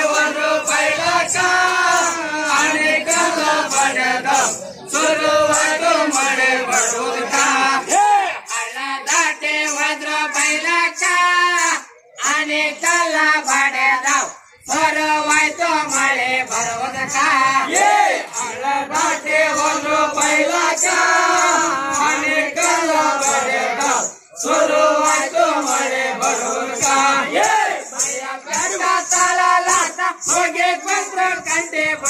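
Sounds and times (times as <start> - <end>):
folk song sung in chorus: 0.0 - 32.0.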